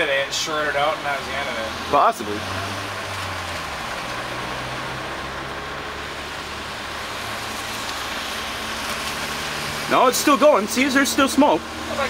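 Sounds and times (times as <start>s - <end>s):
traffic passing: 0.0s - 12.0s
vehicle engine idling: 0.0s - 12.0s.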